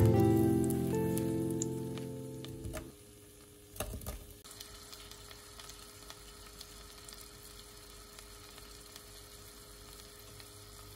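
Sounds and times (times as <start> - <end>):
vegetables sizzling in oil: 0.0 - 10.9.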